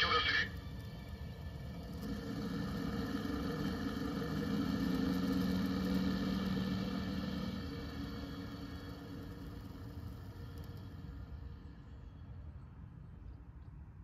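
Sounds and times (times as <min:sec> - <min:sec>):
model aircraft engine drone from speaker: 0:00.0 - 0:13.4.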